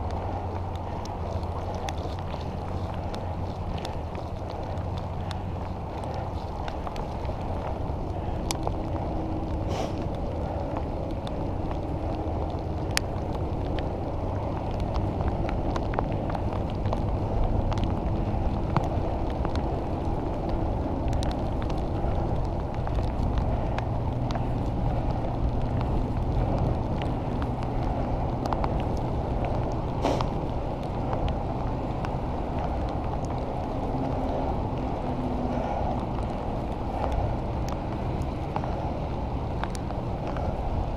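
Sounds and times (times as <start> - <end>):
bicycle tyres on wet road: 0.0 - 40.9
small clicks and ticks: 0.0 - 40.9
wind on microphone: 0.0 - 40.9.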